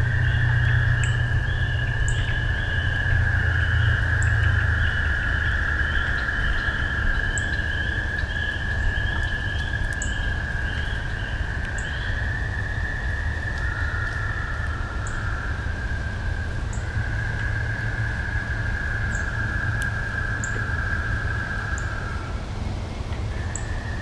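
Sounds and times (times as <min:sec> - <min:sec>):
frogs trilling: 0:00.0 - 0:24.0.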